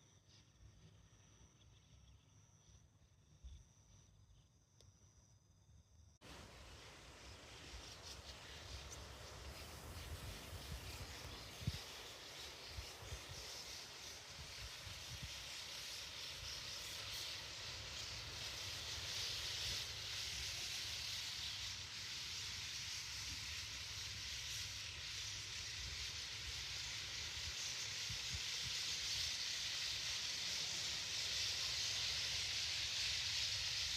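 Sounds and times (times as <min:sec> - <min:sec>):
flock of starlings chattering: 0:06.3 - 0:33.9.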